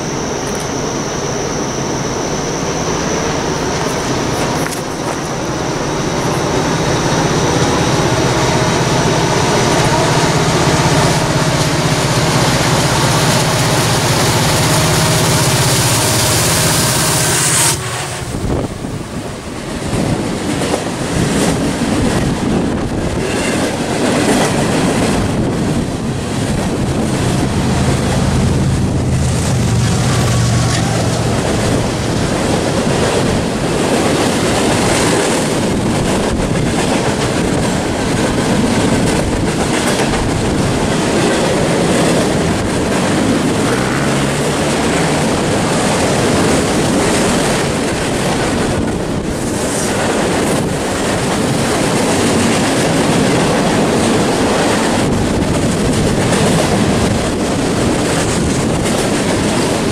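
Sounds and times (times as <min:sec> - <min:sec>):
diesel locomotive engine drone: 0:00.0 - 0:59.9
freight cars rolling on rails: 0:00.0 - 0:59.9.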